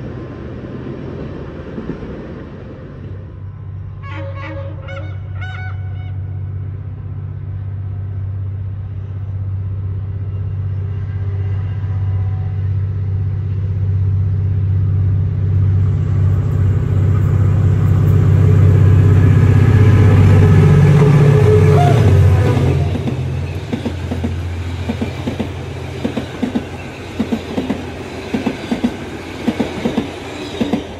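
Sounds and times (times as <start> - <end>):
diesel locomotive engine drone: 0.0 - 30.9.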